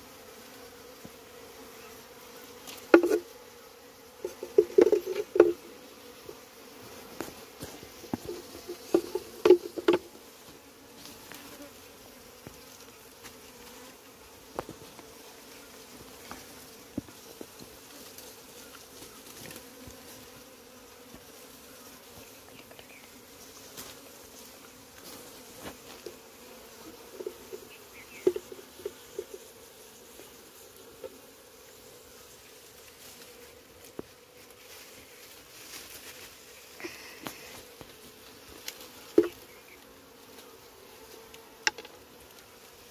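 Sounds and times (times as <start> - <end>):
honeybees buzzing: 0.0 - 42.9.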